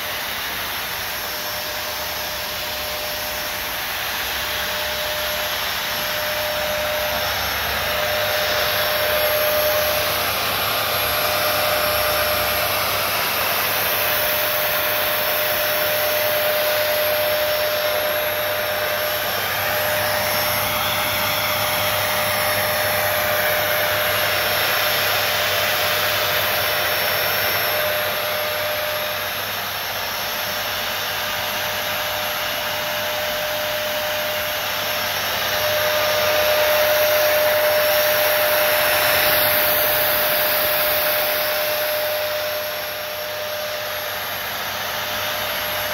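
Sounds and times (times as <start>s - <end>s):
fogger blower motor whining: 0.0s - 45.9s.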